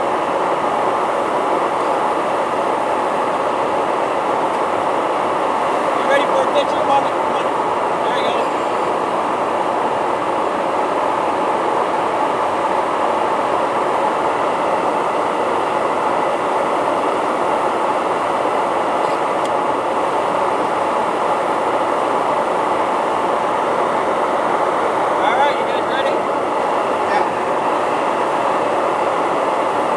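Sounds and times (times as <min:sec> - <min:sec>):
jet engines and airflow rushing: 0:00.0 - 0:29.9.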